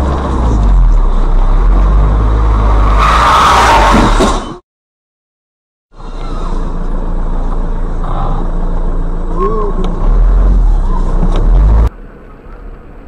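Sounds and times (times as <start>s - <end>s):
car engine and road rumble: 0.0s - 4.5s, 5.9s - 13.0s.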